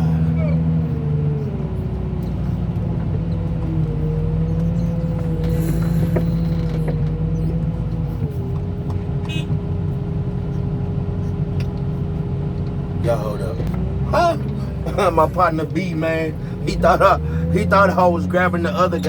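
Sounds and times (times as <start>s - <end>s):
car crusher engine and hydraulics: 0.0s - 19.0s.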